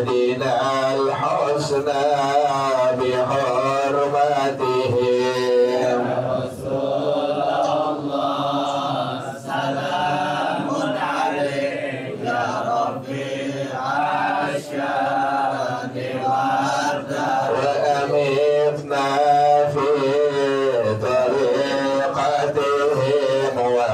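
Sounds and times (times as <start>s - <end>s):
man chanting: 0.0s - 23.9s.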